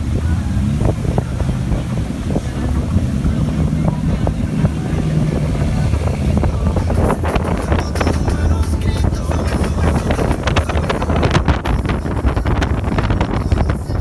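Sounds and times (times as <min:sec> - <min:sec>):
motorboat engine running: 0:00.0 - 0:14.0
water rushing past hull: 0:00.0 - 0:14.0
wind buffeting microphone: 0:00.0 - 0:14.0.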